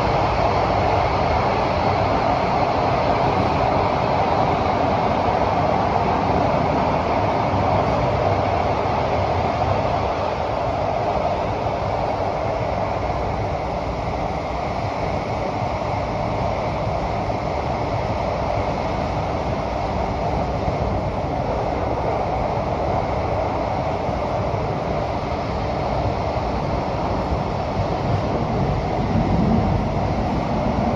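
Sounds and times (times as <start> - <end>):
metro train running inside car: 0.0 - 30.9.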